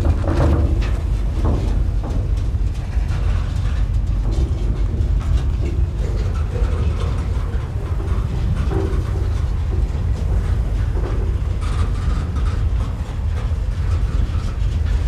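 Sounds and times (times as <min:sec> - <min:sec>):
freight cars knocking and rattling: 0:00.0 - 0:15.0
steel wheels rumbling on rails: 0:00.0 - 0:15.0.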